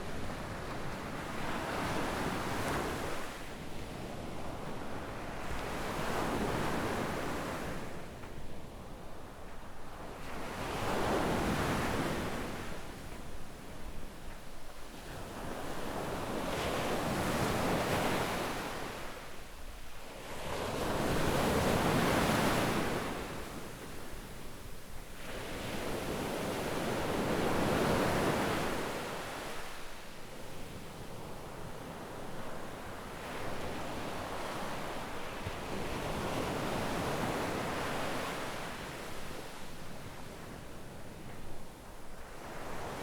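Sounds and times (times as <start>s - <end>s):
waves washing up a beach: 0.0s - 43.0s.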